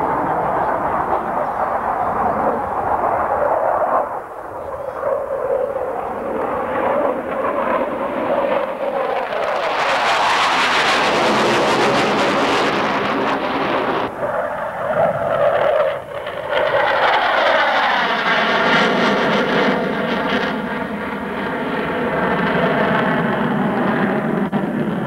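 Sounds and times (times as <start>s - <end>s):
jet engine roaring: 0.0s - 25.0s.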